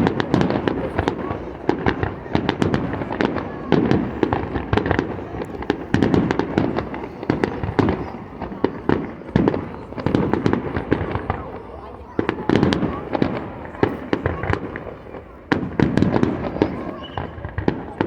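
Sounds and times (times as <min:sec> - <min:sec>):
fireworks exploding: 0:00.0 - 0:18.0.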